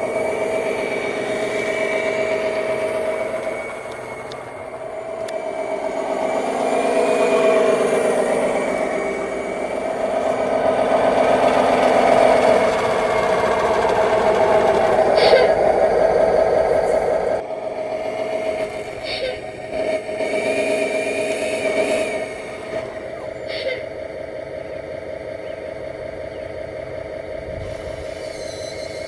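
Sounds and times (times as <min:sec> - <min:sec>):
simulated diesel engine through speaker: 0:00.0 - 0:29.0.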